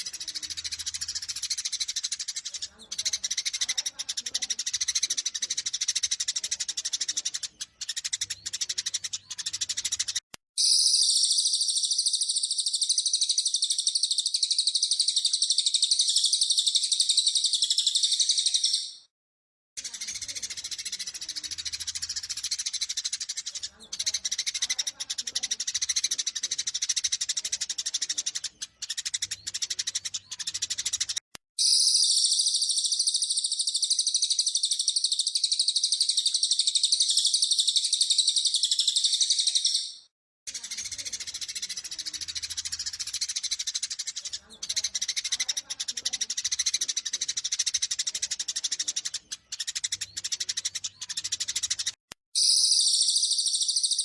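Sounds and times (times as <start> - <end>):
sparrows chattering: 0.0 - 19.1, 19.8 - 54.0.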